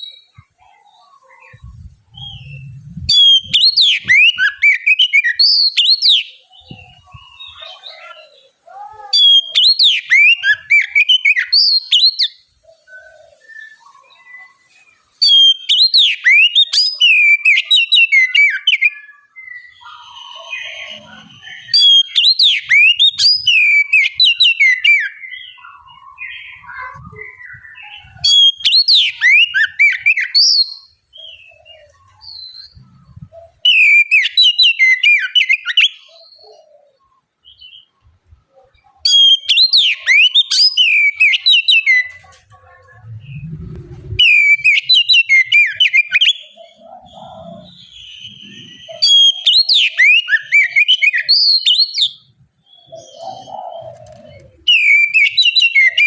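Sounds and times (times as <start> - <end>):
bird calls: 0.0 - 56.0
bird singing whistled notes: 1.3 - 8.2, 9.2 - 37.9, 39.0 - 42.2, 43.0 - 56.0.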